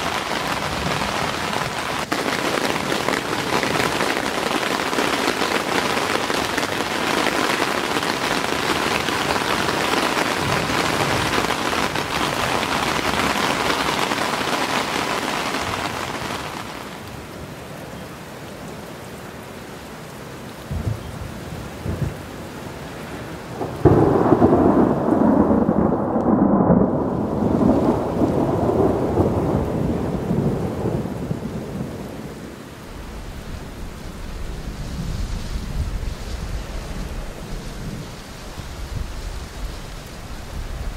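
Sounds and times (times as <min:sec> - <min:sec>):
thunder rumbling: 0:00.0 - 0:16.5, 0:23.6 - 0:40.9
heavy rain on tent fabric: 0:00.0 - 0:40.9.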